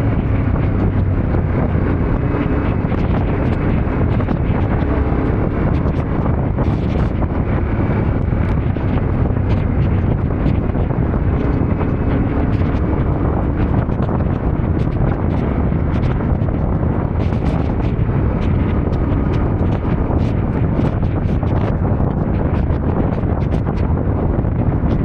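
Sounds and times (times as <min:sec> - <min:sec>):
motorcycle engine running: 0:00.0 - 0:21.9
wind buffeting microphone: 0:00.0 - 0:25.0.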